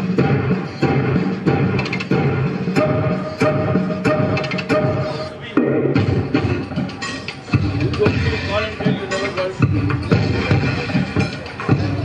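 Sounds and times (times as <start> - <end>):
music with strong beat: 0.0 - 12.0.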